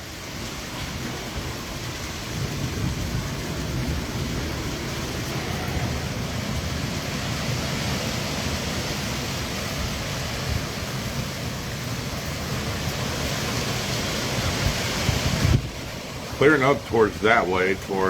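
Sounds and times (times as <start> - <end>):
wind and rain rushing: 0.0 - 18.0
wind buffeting rumble: 0.0 - 18.0.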